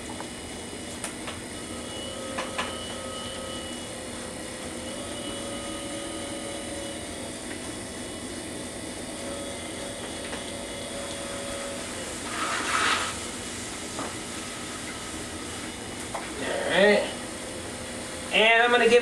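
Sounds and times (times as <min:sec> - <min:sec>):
potter's wheel motor whine: 0:00.0 - 0:19.0.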